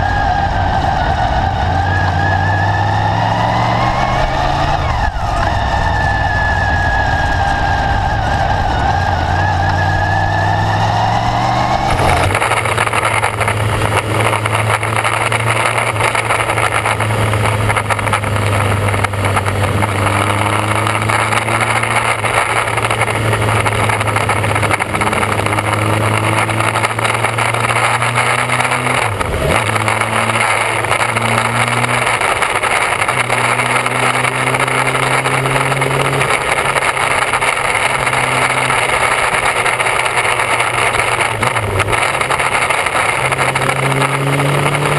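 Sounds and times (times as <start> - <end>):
motorcycle engine: 0.0 - 44.9.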